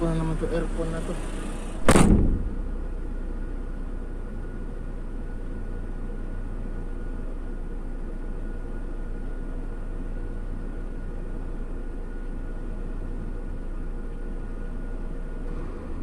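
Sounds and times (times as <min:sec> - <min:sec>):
air conditioning whine: 0:00.0 - 0:16.0
vehicle idling: 0:00.0 - 0:16.0.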